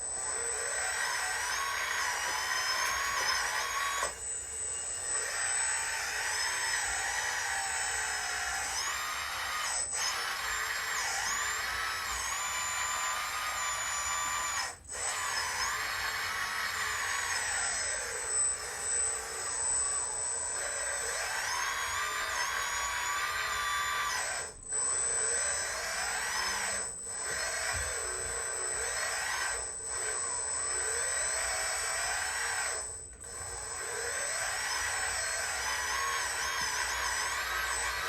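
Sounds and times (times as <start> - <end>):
electric motors whining: 0.0 - 38.0.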